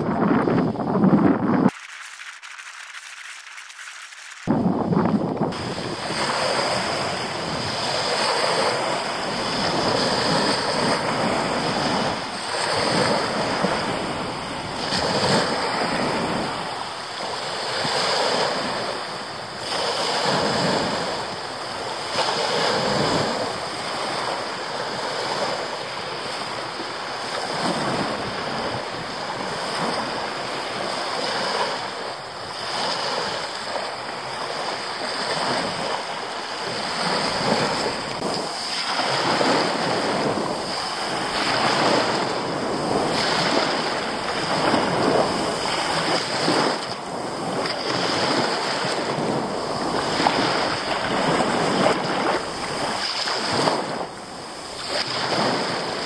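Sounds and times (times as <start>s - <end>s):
waves washing on pebble beach: 1.6s - 56.0s.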